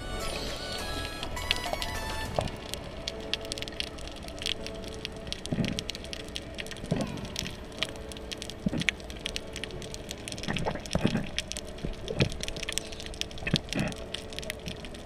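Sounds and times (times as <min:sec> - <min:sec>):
dense crackle of sharp clicks: 0:00.8 - 0:15.0.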